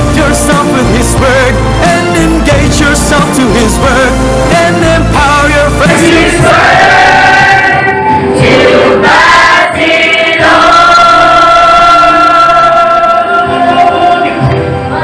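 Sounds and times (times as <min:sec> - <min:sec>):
instrumental backing: 0:00.0 - 0:15.0
voices singing worship song: 0:00.0 - 0:15.0.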